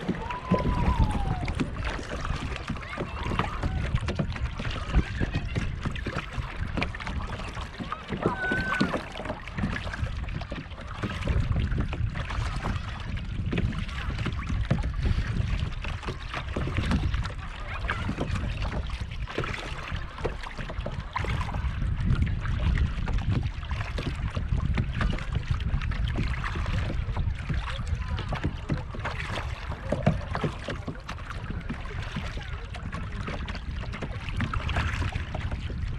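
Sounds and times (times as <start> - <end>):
paddle strokes splashing: 0.0 - 35.9
water lapping at hull: 0.0 - 35.9
wind rumble on microphone: 0.0 - 35.9.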